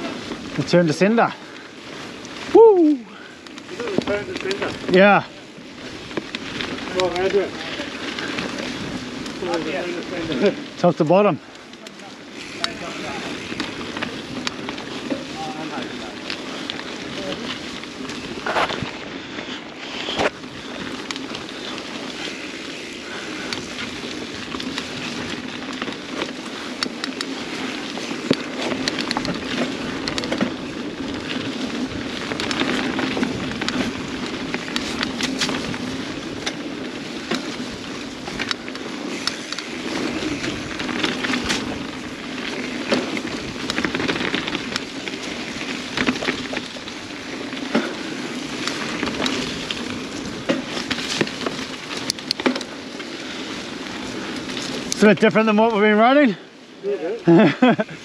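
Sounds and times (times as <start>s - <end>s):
bike rattling and clicking: 0.0s - 58.0s
tyres crunching over gravel: 0.0s - 58.0s.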